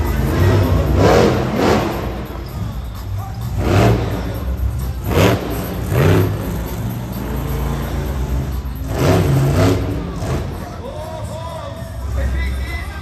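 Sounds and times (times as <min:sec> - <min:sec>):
monster truck engine revving: 0:00.0 - 0:10.9
music: 0:00.0 - 0:13.0.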